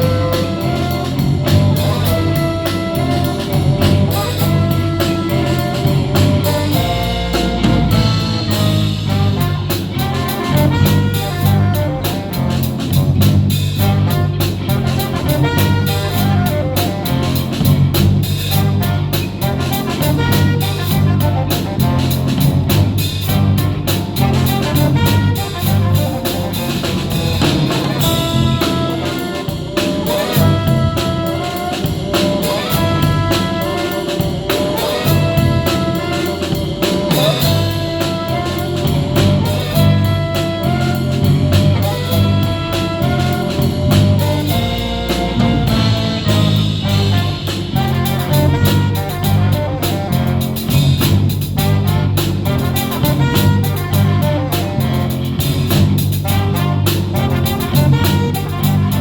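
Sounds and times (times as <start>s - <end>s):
live jazz band playing: 0.0s - 59.0s.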